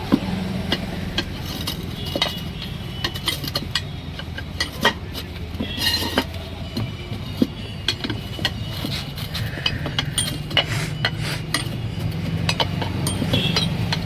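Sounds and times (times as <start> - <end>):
sharp metallic clinks and knocks: 0.0 - 14.0.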